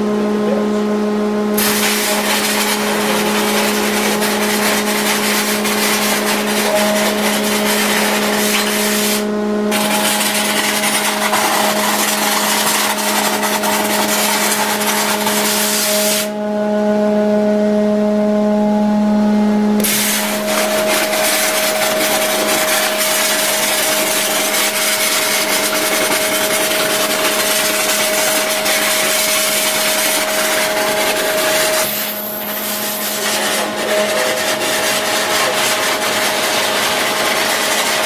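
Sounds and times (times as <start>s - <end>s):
machine hum: 0.0s - 38.0s
water jet hissing: 1.6s - 16.3s, 19.8s - 38.0s.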